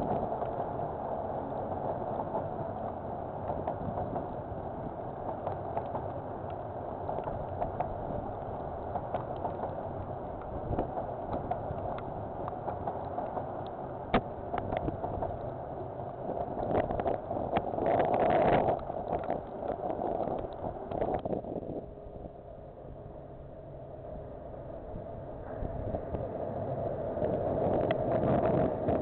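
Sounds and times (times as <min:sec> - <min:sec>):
freight train wagons rolling: 0:00.0 - 0:29.0
rain and wind hitting microphone: 0:00.0 - 0:29.0.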